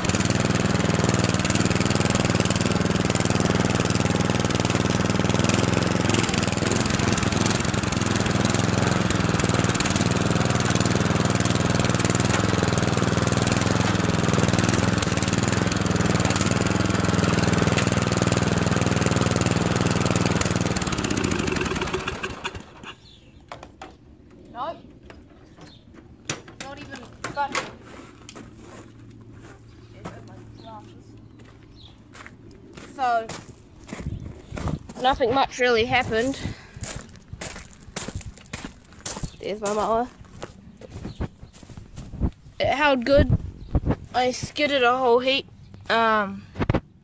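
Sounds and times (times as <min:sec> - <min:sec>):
ride-on lawnmower engine running: 0:00.0 - 0:47.0.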